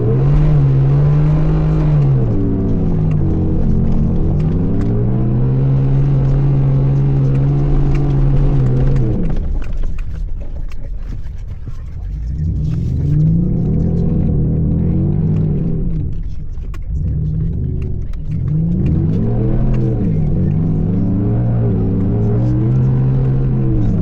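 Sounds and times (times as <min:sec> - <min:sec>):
truck engine revving: 0:00.0 - 0:10.2, 0:12.0 - 0:24.0.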